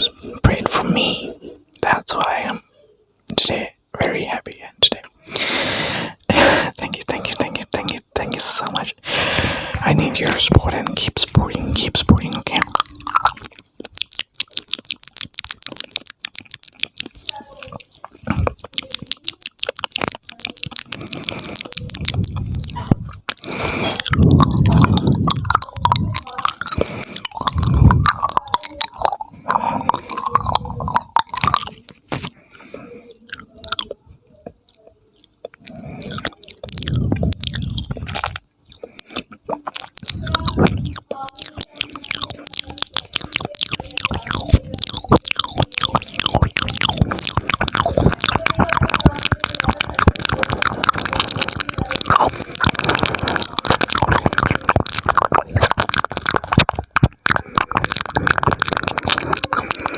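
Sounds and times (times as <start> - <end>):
wet mouth clicking and smacking: 0.0 - 2.6, 3.2 - 59.9.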